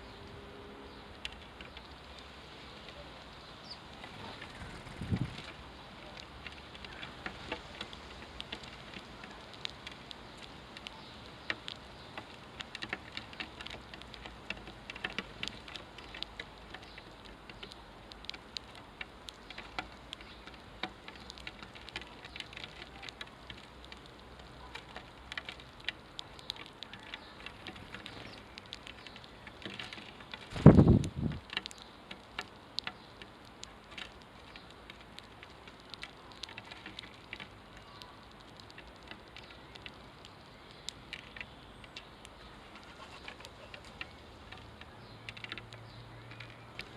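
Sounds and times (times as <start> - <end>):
birds pecking seed: 0.0 - 46.9.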